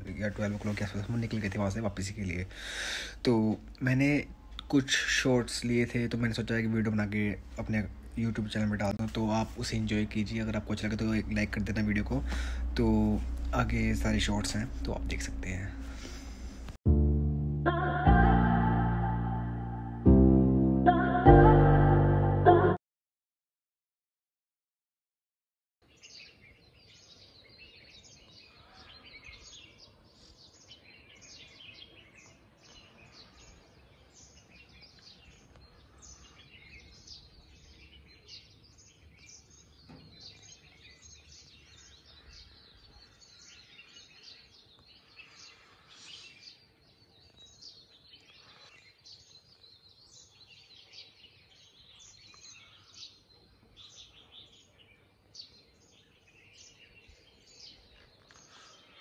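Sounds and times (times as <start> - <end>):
many birds chirping: 0.0 - 16.8, 25.8 - 59.0.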